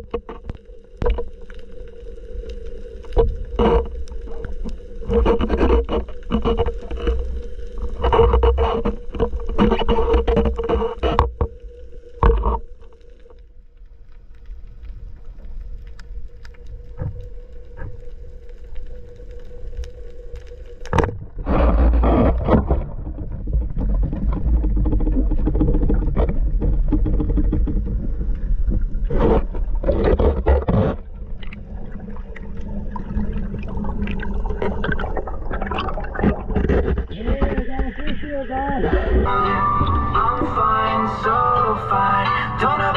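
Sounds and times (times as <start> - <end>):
water rushing and bubbling underwater: 0.0 - 42.9.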